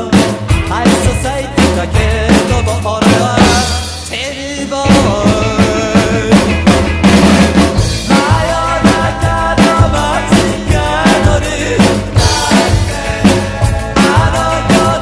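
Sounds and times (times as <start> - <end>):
drum kit rock beat: 0.0 - 15.0
rockabilly song with bass and guitar: 0.0 - 15.0.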